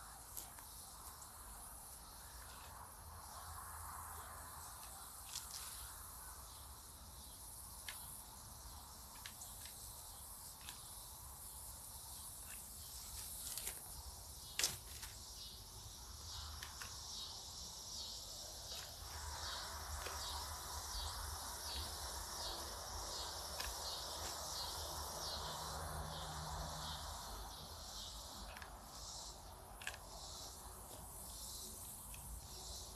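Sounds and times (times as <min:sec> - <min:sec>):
insect chorus buzzing: 0:00.0 - 0:32.9.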